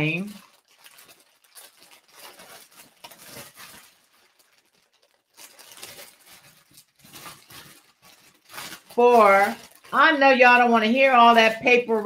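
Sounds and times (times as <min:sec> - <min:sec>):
paper rattling and crinkling: 0:00.0 - 0:12.0.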